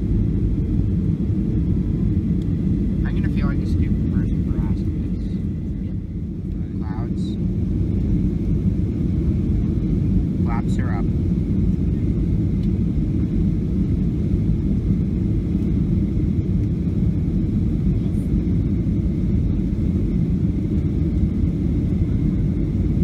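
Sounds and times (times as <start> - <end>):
airplane cabin roar: 0.0 - 23.0.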